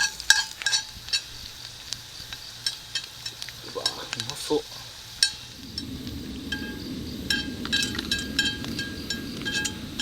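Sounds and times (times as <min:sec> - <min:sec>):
low background noise: 0:00.0 - 0:10.0.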